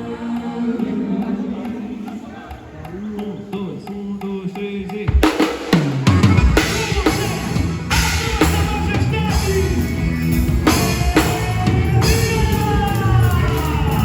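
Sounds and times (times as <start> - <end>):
live band music: 0.0 - 14.0
drum kit hitting: 0.4 - 14.0.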